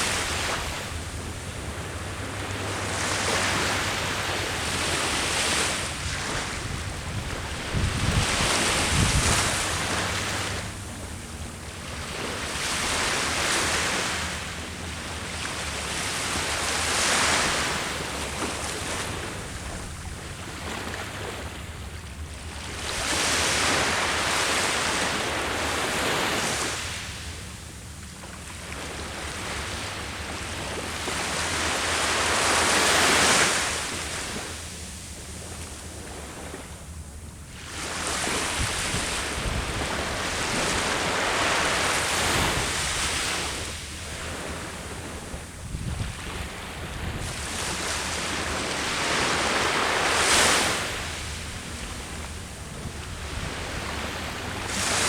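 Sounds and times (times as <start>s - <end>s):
ocean surf breaking on shore: 0.0s - 27.5s, 28.6s - 36.8s, 37.5s - 55.0s.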